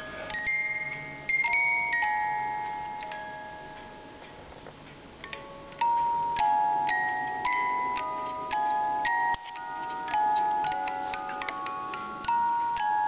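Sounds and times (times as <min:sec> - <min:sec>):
music box playing slow tune: 0:00.0 - 0:13.0.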